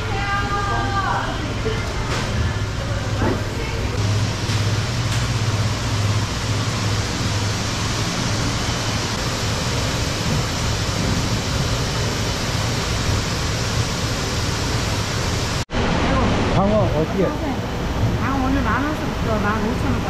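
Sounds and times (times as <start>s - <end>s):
low pump hum: 0.0s - 20.0s
running water and aeration: 0.0s - 20.0s.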